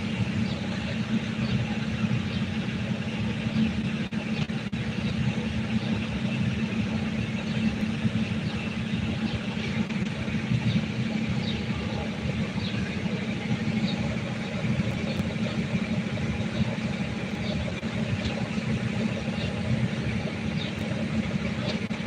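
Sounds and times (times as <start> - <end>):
low rumbling engine noise: 0.0 - 22.0.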